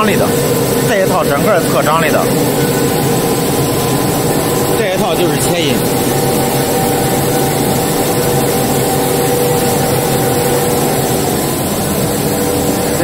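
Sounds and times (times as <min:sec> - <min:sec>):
machine humming: 0:00.0 - 0:13.0
machine whining tones: 0:00.0 - 0:13.0.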